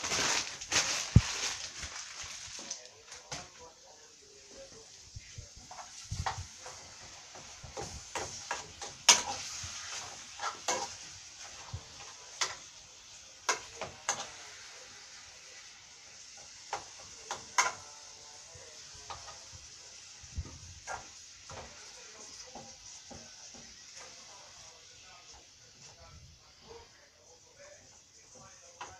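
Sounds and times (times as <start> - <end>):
faint steady hiss: 0.0 - 28.9.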